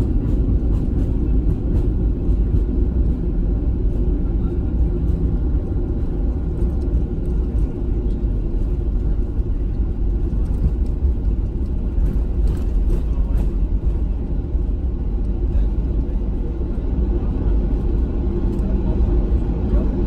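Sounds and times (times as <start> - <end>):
airliner low rumble: 0.0 - 20.0.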